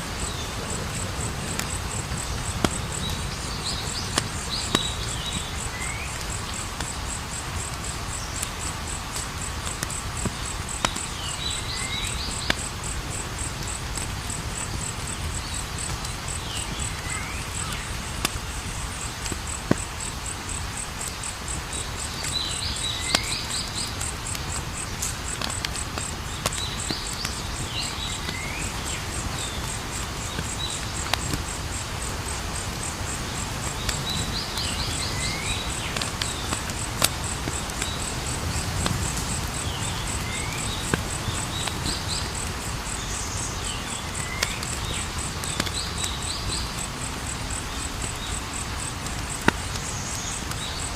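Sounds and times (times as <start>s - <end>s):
campfire crackling and popping: 0.0s - 50.9s
crickets chirping: 0.0s - 50.9s.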